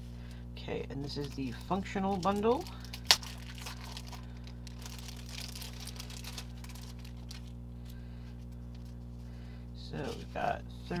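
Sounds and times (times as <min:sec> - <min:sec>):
plastic and paper crinkling: 0:01.0 - 0:09.0, 0:10.0 - 0:11.0.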